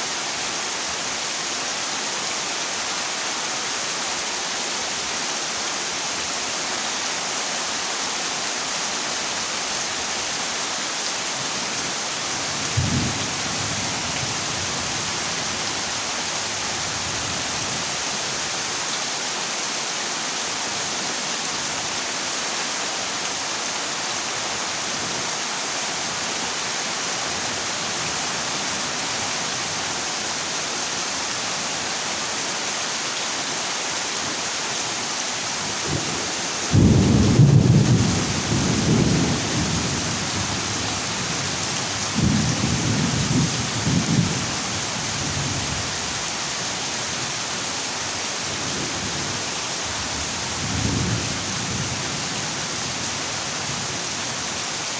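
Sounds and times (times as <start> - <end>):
heavy rain on a metal roof: 0.0 - 54.9.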